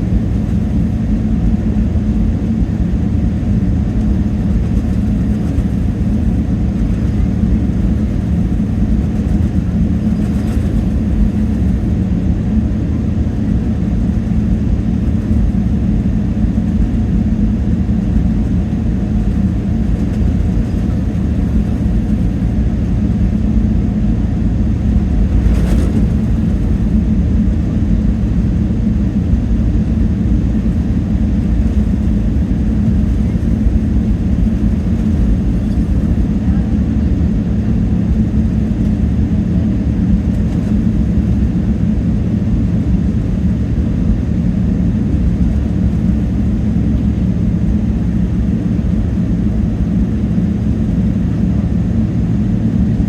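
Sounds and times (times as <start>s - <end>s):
constant hum: 0.0s - 53.0s
jet engine rumble: 0.0s - 53.0s.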